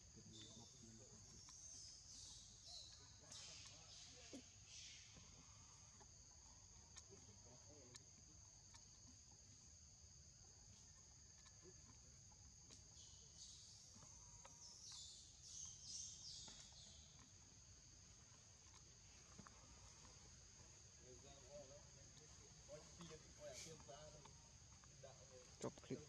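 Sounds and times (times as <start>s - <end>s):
high-pitched insect trilling: 0.0s - 26.0s.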